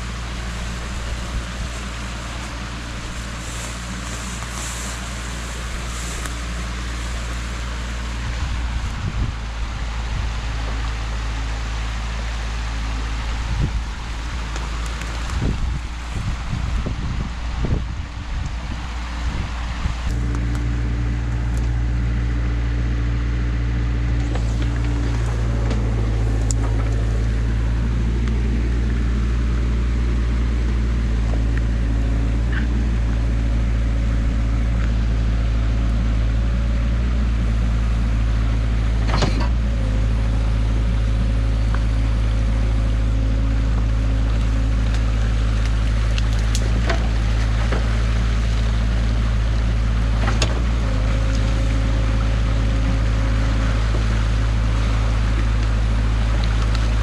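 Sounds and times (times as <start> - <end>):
excavator engine hum: 0.0 - 57.0
hydraulic whine: 0.0 - 57.0.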